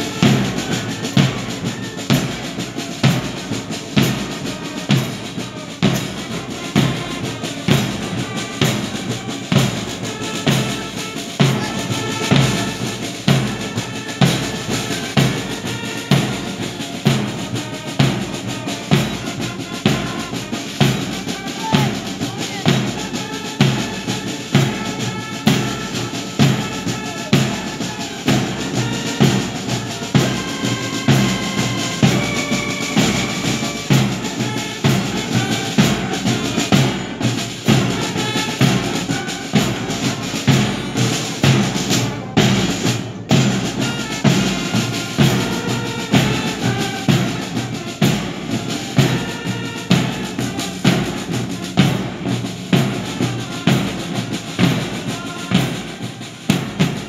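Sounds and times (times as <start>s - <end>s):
snare drum: 0.0s - 57.0s
wind instruments melody: 0.0s - 57.0s.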